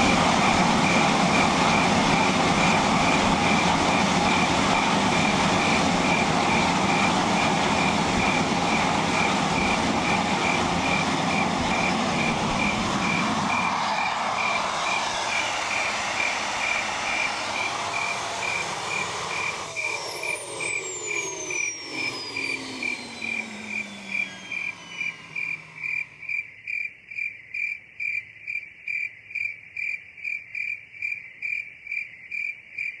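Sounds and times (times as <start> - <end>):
gas turbine spooling down: 0.0 - 26.6.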